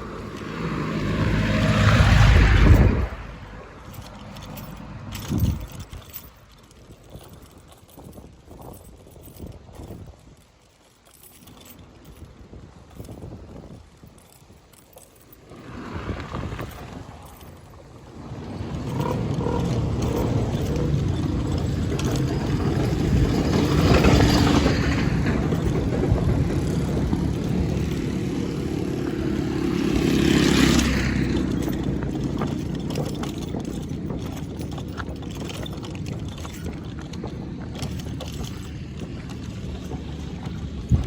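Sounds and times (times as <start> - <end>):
vehicle engines running: 0.0 - 8.2, 15.2 - 41.0
vehicles passing close: 0.0 - 8.2, 13.8 - 41.0.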